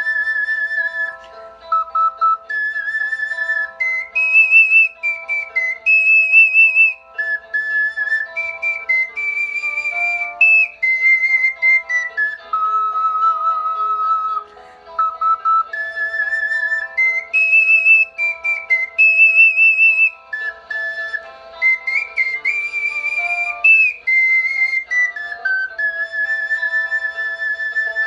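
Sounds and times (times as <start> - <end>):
ocarina melody: 0.0 - 28.0.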